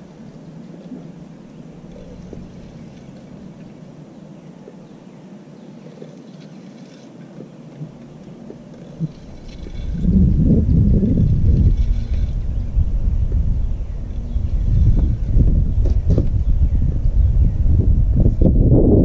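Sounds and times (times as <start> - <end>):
wind rumbling on microphone: 0.0 - 5.2, 7.2 - 19.0.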